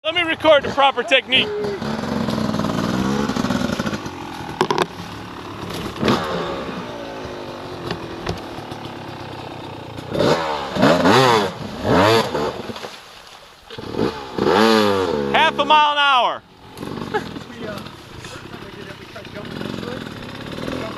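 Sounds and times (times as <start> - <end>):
dirt bike engine revving: 0.0 - 12.9, 13.7 - 20.9.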